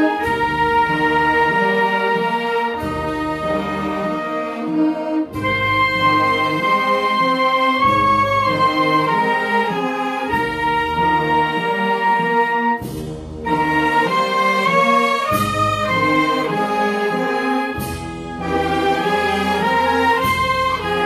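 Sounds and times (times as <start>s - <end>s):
wind band playing a funeral march: 0.0s - 21.0s.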